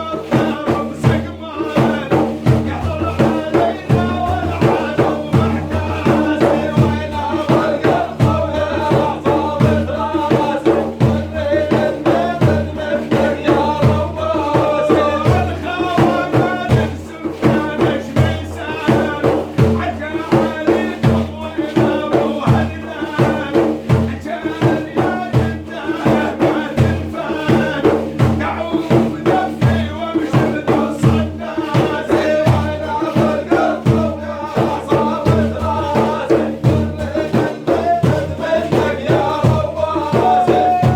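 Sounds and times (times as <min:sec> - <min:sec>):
frame drums beating: 0:00.0 - 0:40.9
man singing religious chant: 0:00.0 - 0:40.9.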